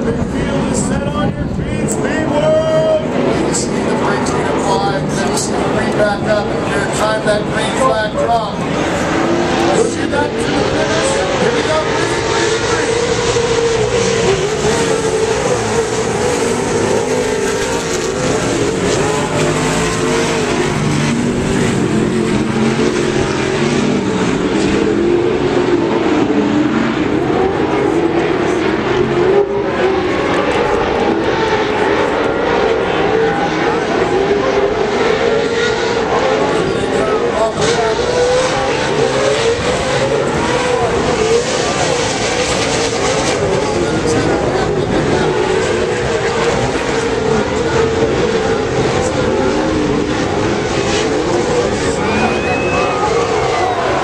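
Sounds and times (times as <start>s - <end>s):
race truck engines revving: 0.0s - 54.0s
steady rush of noise: 0.0s - 54.0s.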